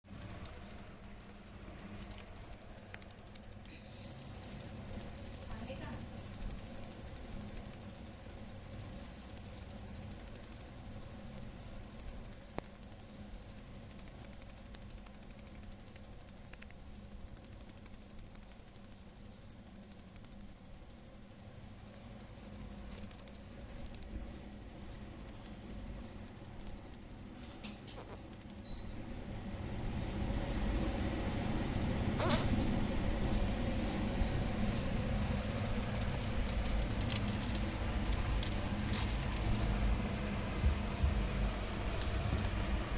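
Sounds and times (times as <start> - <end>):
cricket trilling: 0.0 - 42.9.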